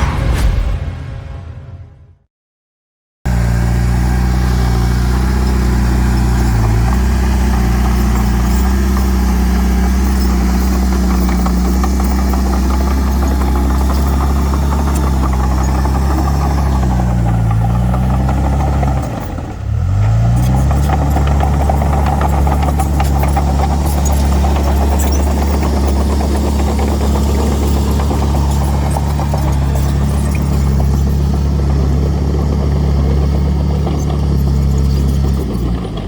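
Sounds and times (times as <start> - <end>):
bulldozer diesel engine running: 3.3 - 36.0.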